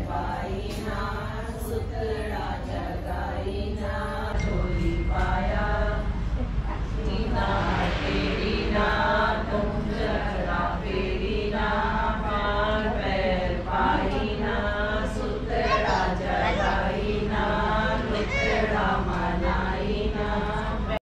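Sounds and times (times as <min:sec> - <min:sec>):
women singing a chant: 0:00.0 - 0:21.0.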